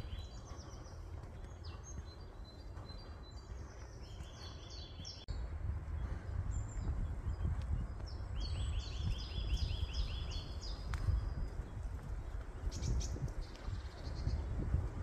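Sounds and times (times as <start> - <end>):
continuous low rumble: 0.0 - 15.0
songbird singing: 0.0 - 15.0.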